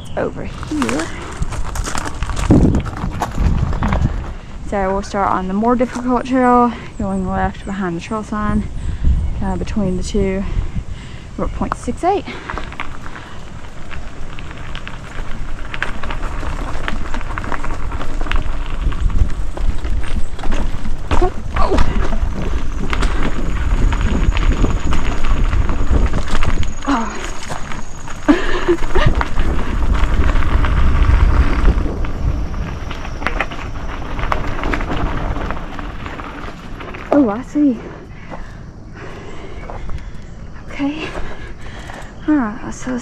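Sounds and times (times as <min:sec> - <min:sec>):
bike tyres crackling on dirt: 0:00.0 - 0:43.0
wind rumble on microphone: 0:00.0 - 0:43.0.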